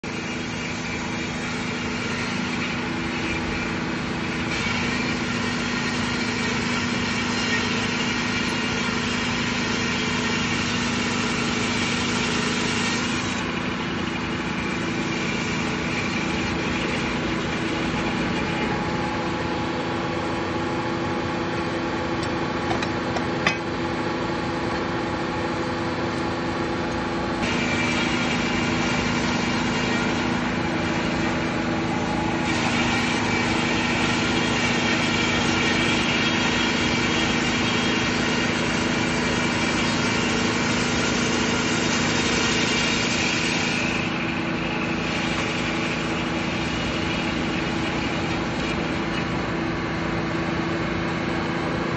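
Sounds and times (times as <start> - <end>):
sawmill saw cutting log: 0.0 - 51.9
steady machine drone: 0.0 - 51.9.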